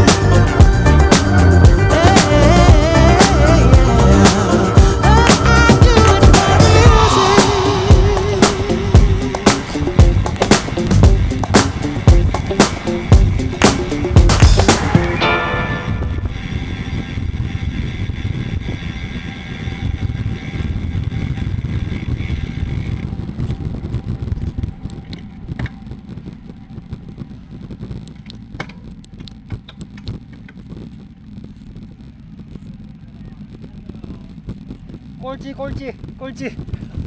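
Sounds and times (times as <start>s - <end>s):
bike tyres rumbling on asphalt: 0.0s - 37.0s
wind rushing over microphone: 0.0s - 37.0s.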